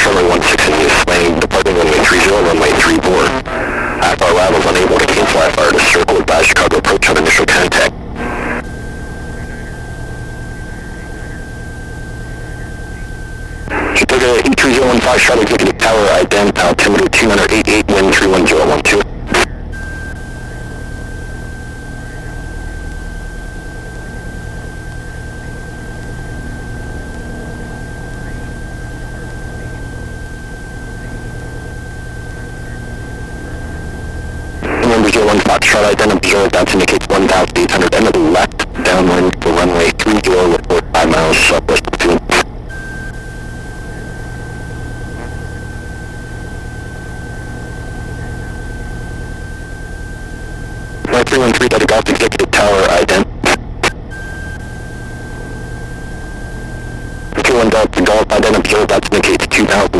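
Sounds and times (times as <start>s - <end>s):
aircraft engine idling: 0.0s - 59.9s
high-pitched whine: 0.0s - 59.9s
radio hiss and low hum: 0.0s - 59.9s.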